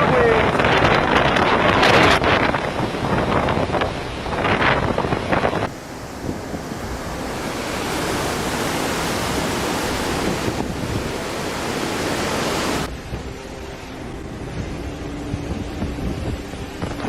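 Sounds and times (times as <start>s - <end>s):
storm wind rushing: 0.0s - 17.0s
surging water: 0.0s - 17.0s.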